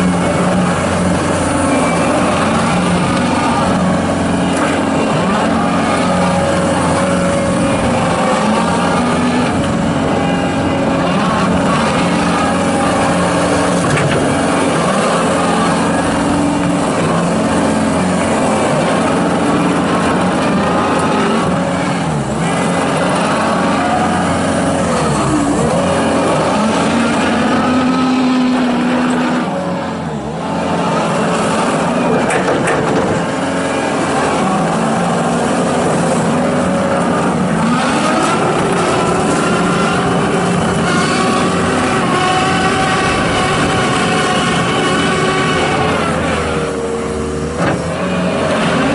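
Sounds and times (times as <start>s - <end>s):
diesel loader engine running: 0.0s - 48.9s.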